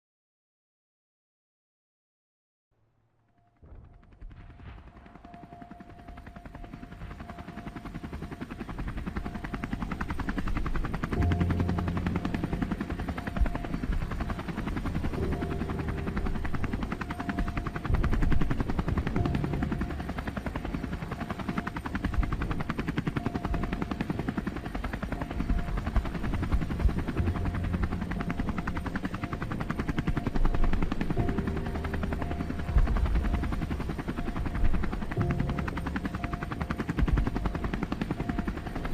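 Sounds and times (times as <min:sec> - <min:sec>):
drone propellers whirring: 0:03.6 - 0:38.9.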